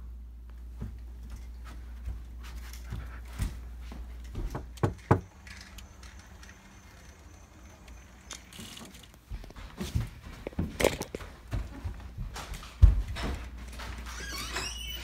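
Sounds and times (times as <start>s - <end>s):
low steady hum: 0.0s - 14.1s.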